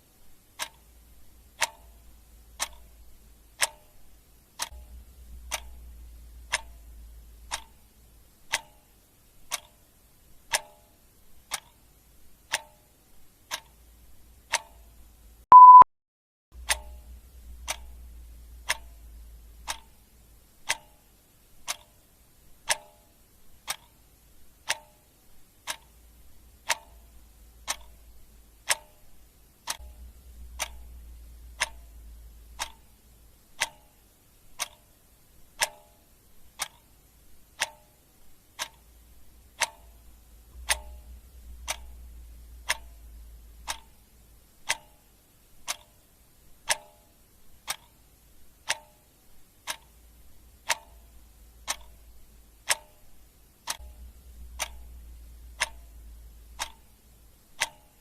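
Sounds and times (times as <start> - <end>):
clock ticking: 0.0 - 15.8, 16.6 - 58.0
faint low hum: 0.0 - 15.8, 16.6 - 58.0.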